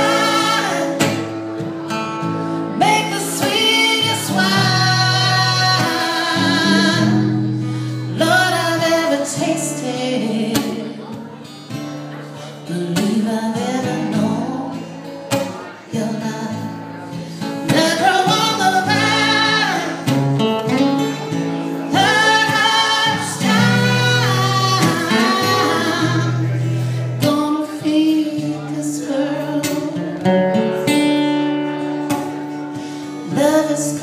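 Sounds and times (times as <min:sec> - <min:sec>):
person singing: 0:00.0 - 0:01.7, 0:02.6 - 0:11.2, 0:12.6 - 0:15.0, 0:15.6 - 0:30.7, 0:33.0 - 0:34.0
acoustic guitars strumming: 0:00.0 - 0:34.0.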